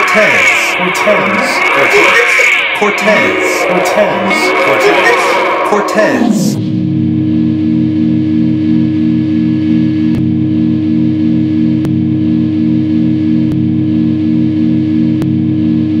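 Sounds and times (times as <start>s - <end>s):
electric guitar chord ringing: 0.0s - 16.0s.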